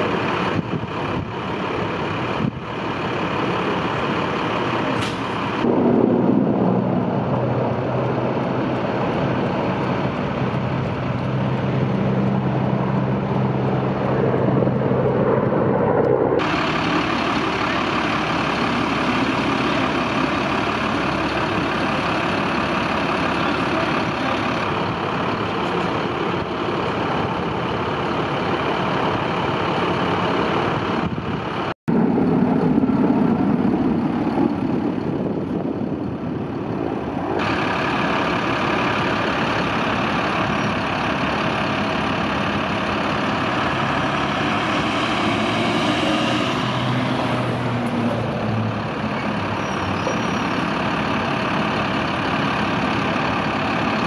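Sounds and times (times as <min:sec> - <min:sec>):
diesel engines idling: 0:00.0 - 0:54.0.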